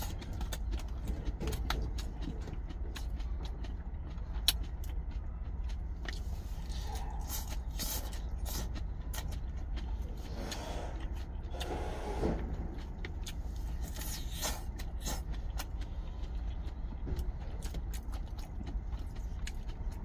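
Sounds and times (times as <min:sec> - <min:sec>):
crunchy chewing: 0:00.0 - 0:20.0
low vehicle rumble: 0:00.0 - 0:20.0.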